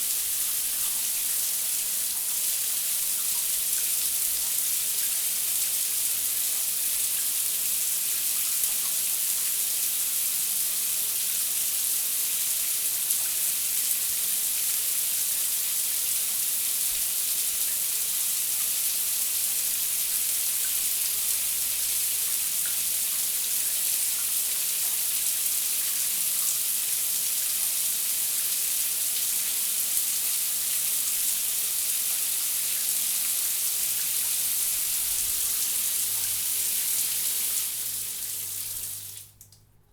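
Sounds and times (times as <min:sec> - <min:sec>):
shower running: 0:00.0 - 0:39.6.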